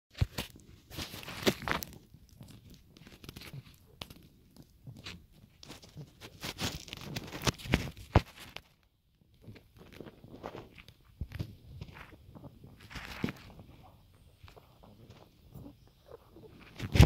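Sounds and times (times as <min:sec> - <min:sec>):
ferrets scratching in soil: 0:00.5 - 0:08.6, 0:09.8 - 0:17.0.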